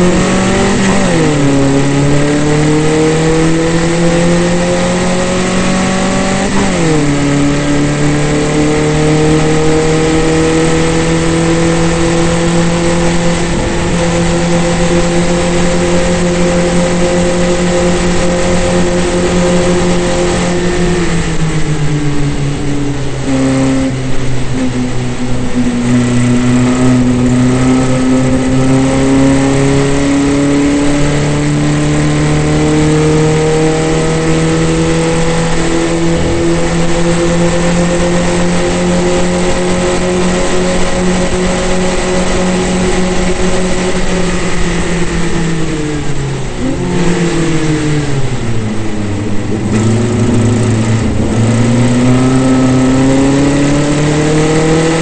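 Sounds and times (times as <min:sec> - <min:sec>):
racing car engine at full revs: 0:00.0 - 0:55.0.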